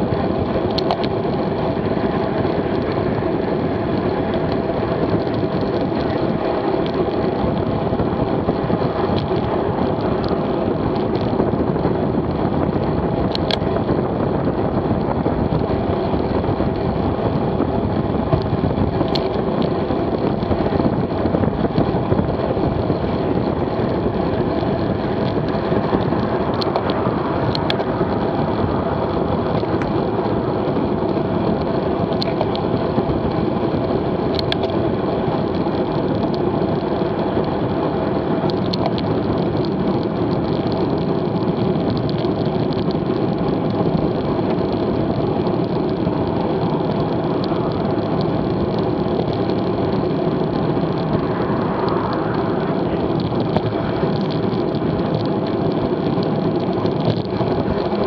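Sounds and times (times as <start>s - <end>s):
bike tyres humming on asphalt: 0.0s - 58.0s
wind rushing across microphone: 0.0s - 58.0s.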